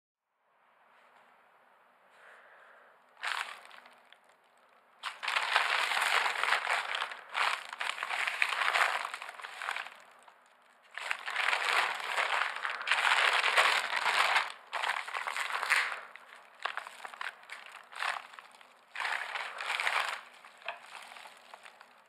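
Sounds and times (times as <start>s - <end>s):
plastic mailer bag crinkling: 3.2s - 4.0s, 5.0s - 22.0s.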